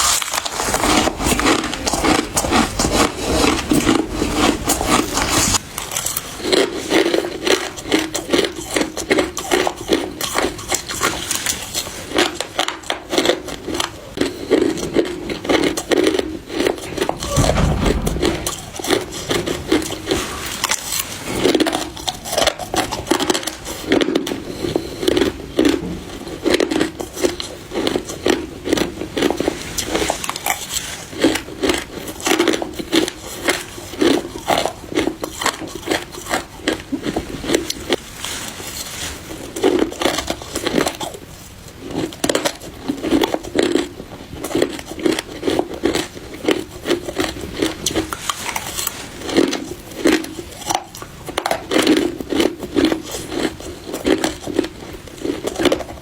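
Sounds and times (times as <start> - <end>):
crushed ice being chewed: 0.0 - 17.3, 19.6 - 56.0.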